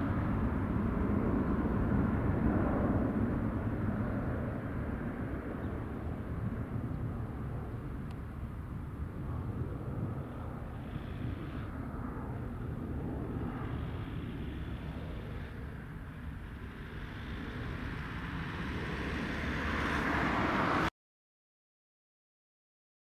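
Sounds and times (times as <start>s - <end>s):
jet engines low rumble: 0.0s - 20.9s.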